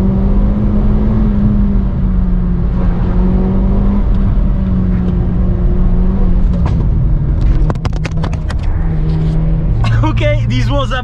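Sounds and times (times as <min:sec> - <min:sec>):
heavy road rumble: 0:00.0 - 0:11.0.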